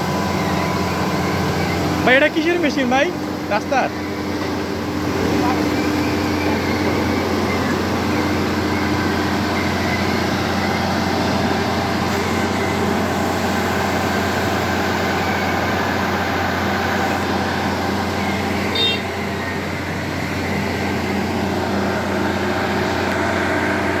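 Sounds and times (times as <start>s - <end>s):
heavy machine engine humming: 0.0s - 24.0s.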